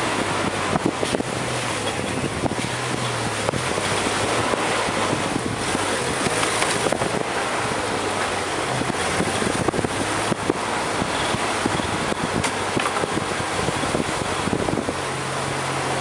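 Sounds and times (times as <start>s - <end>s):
car engine running: 0.0s - 16.0s
road and wind noise: 0.0s - 16.0s
vehicle knocks and rattles: 0.1s - 7.4s, 8.1s - 14.9s.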